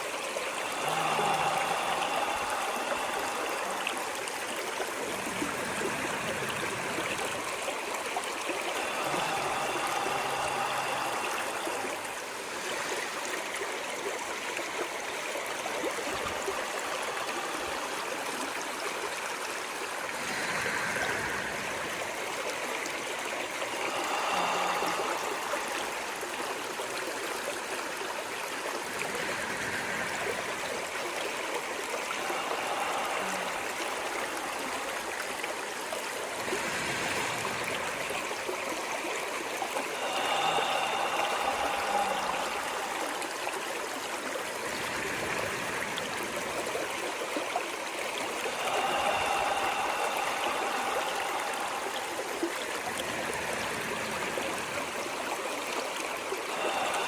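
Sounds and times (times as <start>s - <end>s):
stream water rushing and gurgling: 0.0s - 57.0s.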